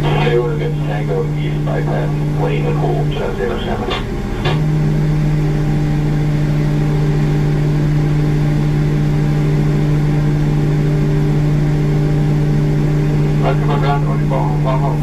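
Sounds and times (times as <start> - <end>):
steady machinery hum: 0.0 - 15.0.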